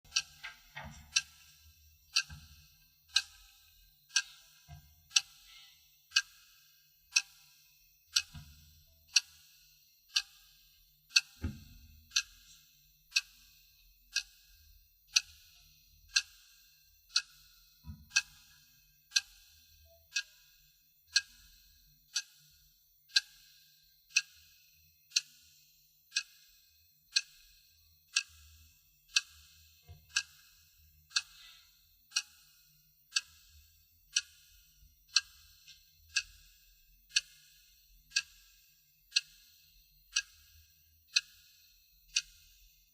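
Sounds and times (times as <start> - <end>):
wristwatch ticking: 0.1 - 42.9.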